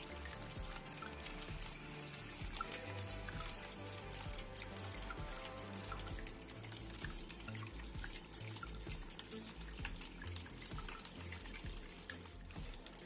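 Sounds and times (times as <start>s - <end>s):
fountain water trickling and dripping: 0.0s - 13.0s.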